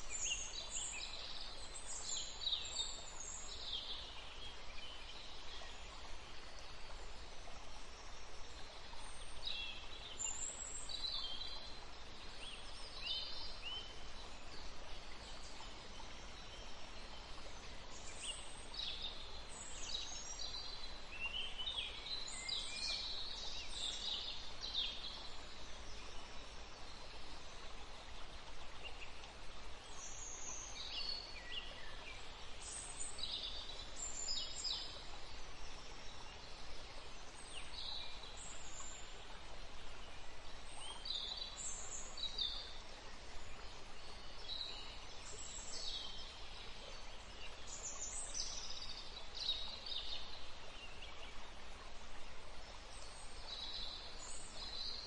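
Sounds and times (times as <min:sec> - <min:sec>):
soft outdoor hiss: 0:00.0 - 0:55.0.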